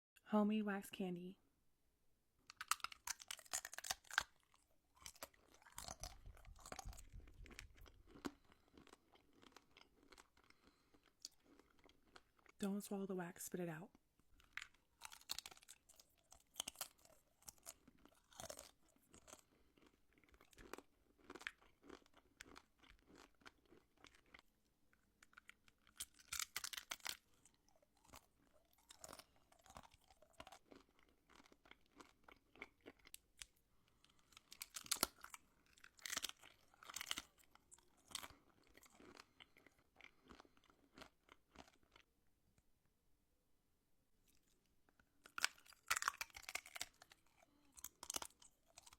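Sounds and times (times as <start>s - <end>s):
crunching and chewing wax candy: 2.4s - 12.6s, 13.9s - 42.2s, 44.2s - 48.9s.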